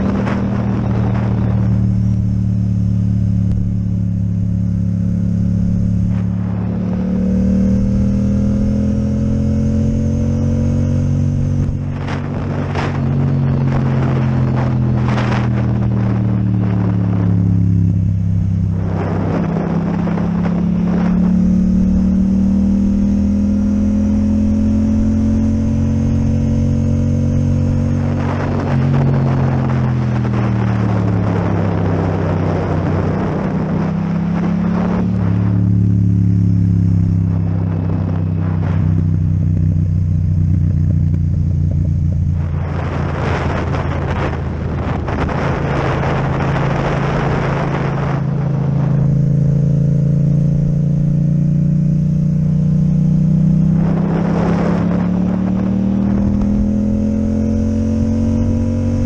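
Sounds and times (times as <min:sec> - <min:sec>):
motorcycle engine: 0:00.0 - 0:59.0
wind rush: 0:00.0 - 0:59.0.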